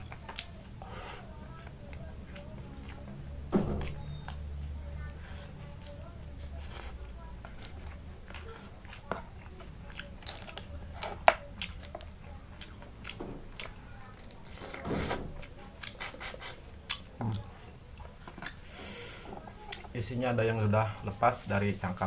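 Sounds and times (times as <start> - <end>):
chewing and lip smacks: 0.0 - 18.6, 19.5 - 20.0.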